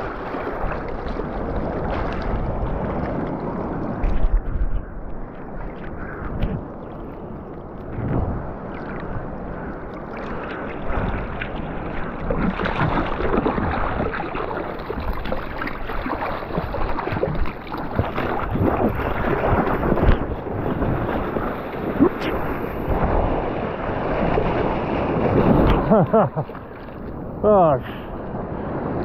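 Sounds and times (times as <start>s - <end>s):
ocean surf splashing: 0.0s - 29.0s.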